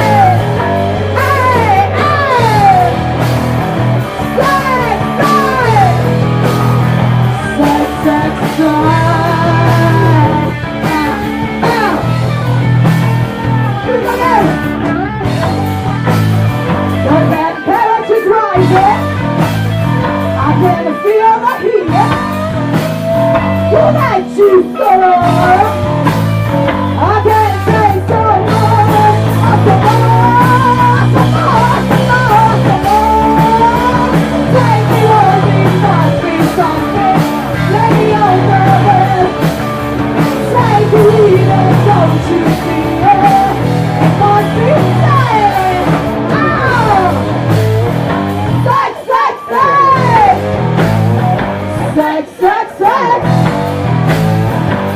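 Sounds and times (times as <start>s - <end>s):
electric guitar lead bending: 0.0s - 54.9s
rock band playing live: 0.0s - 54.9s.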